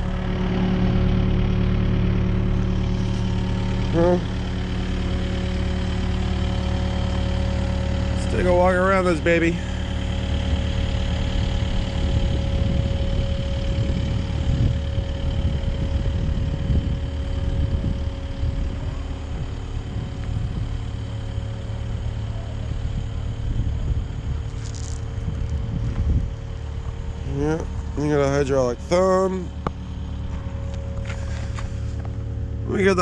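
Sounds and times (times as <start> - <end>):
diesel engine idling: 0.0 - 33.0
engine whine: 0.0 - 33.0.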